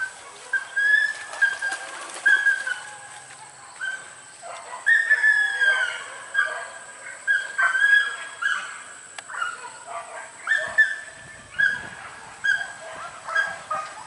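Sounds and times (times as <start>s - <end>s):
dogs yelping: 0.0s - 14.0s.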